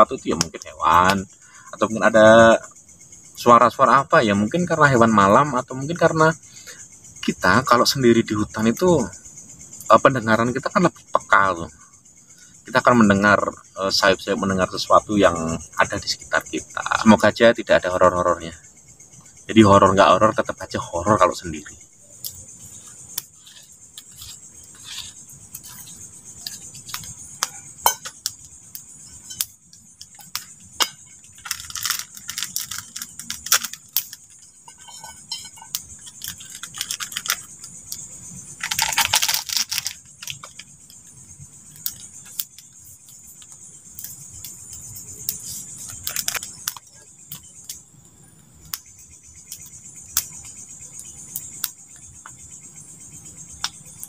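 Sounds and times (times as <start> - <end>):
campfire crackling: 0.0 - 54.0
crickets chirping: 0.0 - 54.0.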